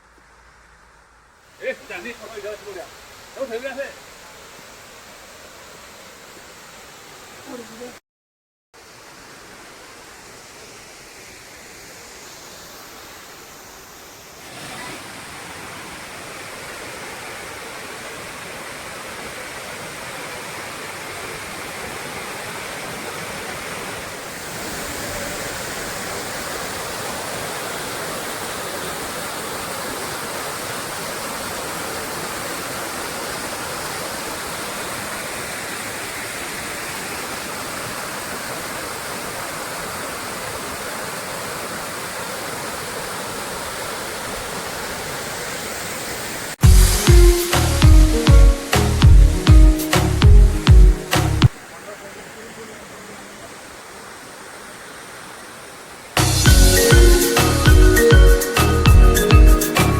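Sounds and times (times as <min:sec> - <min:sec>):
waterfall rushing: 0:00.0 - 0:08.0, 0:08.8 - 0:59.9.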